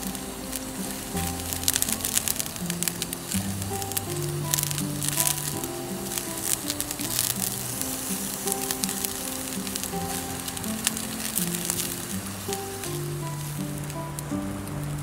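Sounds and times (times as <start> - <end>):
background music of held notes: 0.0 - 15.0
food sizzling in a hot pan: 0.0 - 15.0.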